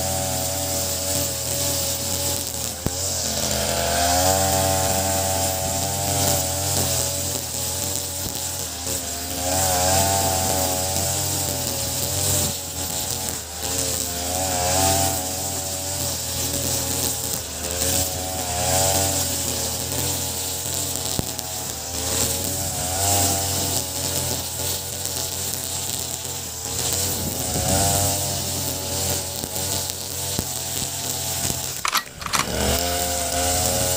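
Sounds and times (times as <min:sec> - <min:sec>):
brush cutter engine running: 0:00.0 - 0:33.9.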